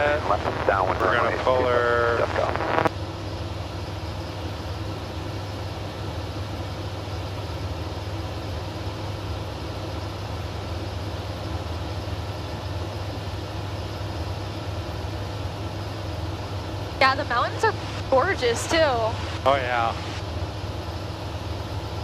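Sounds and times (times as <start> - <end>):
light aircraft engine drone: 0.0 - 22.0.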